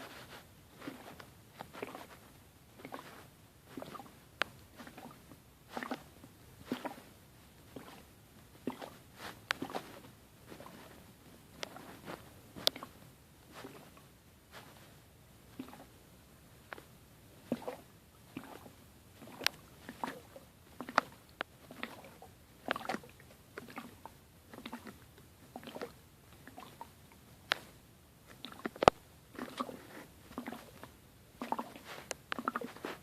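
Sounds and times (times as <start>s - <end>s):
mouth and breath noises: 0.0s - 16.0s, 16.6s - 25.0s, 27.5s - 33.0s.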